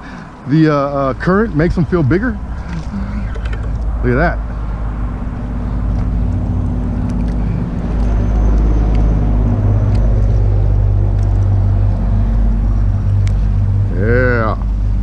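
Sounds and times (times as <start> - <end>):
motor engine droning: 0.0 - 15.0.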